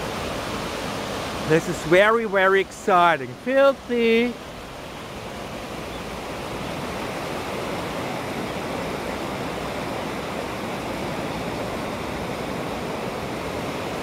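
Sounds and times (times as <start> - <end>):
river rushing in flood: 0.0 - 14.0.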